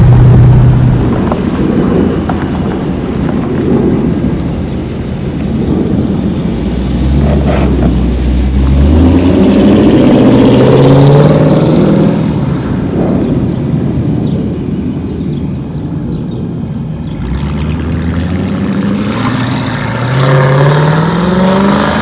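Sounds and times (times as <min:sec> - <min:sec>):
car engine rumbling and accelerating: 0:00.0 - 0:22.0.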